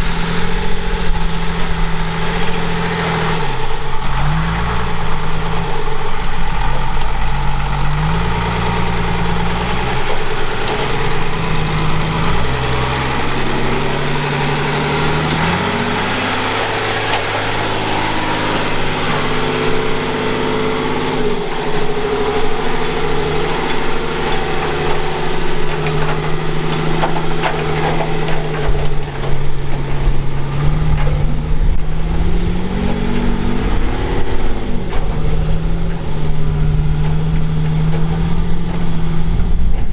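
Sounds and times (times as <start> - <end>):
knocks and clatter: 0.0 - 39.9
off-road vehicle engine: 0.0 - 39.9.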